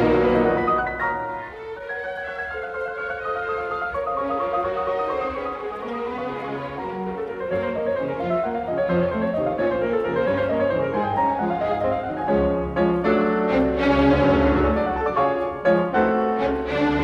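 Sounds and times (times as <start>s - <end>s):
classical piano music: 0.0s - 17.0s.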